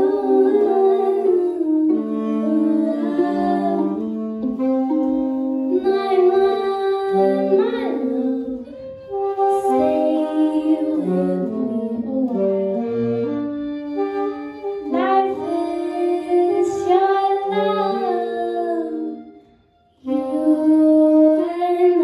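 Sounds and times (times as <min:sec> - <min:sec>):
woman singing: 0:00.0 - 0:12.6, 0:14.9 - 0:19.4, 0:20.0 - 0:22.0
alto saxophone: 0:00.0 - 0:22.0
tenor saxophone: 0:00.0 - 0:22.0
violin: 0:00.0 - 0:22.0.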